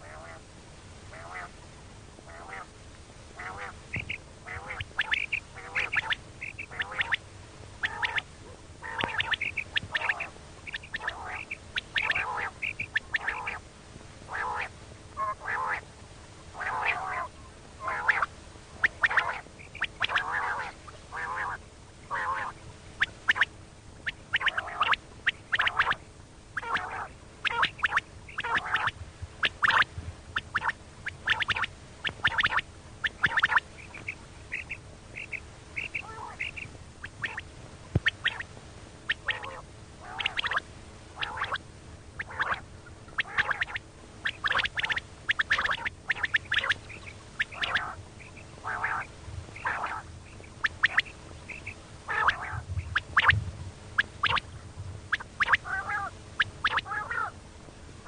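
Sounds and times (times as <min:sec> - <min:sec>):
quail calling: 0:00.0 - 0:00.5, 0:01.1 - 0:01.6, 0:02.2 - 0:02.8, 0:03.4 - 0:15.9, 0:16.5 - 0:41.6, 0:42.2 - 0:53.4, 0:54.0 - 0:54.5, 0:55.1 - 0:57.4.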